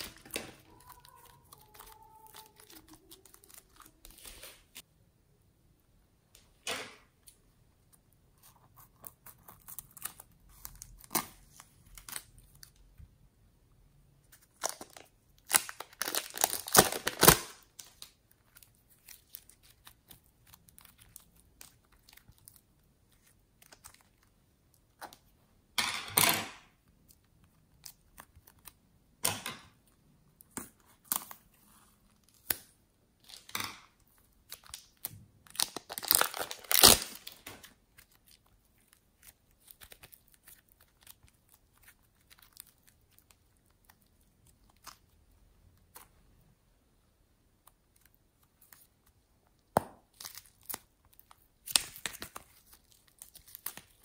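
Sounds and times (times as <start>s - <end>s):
clay crackling and tearing: 0.0s - 4.9s, 7.2s - 12.8s, 14.2s - 25.3s, 26.8s - 28.9s, 29.8s - 46.2s, 47.5s - 54.0s.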